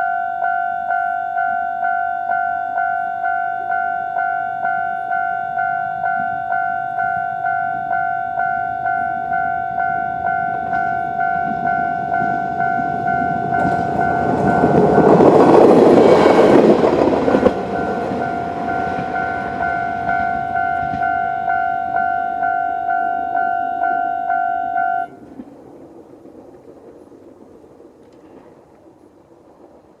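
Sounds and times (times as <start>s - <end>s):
level-crossing bell dinging: 0.0s - 25.1s
diesel railcar passing: 0.0s - 30.0s.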